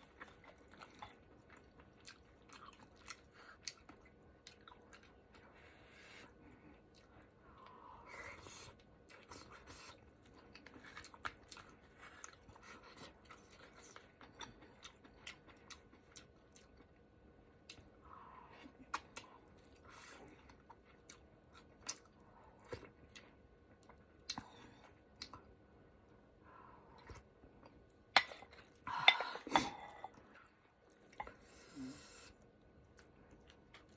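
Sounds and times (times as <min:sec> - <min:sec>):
person chewing food: 0:00.0 - 0:33.9.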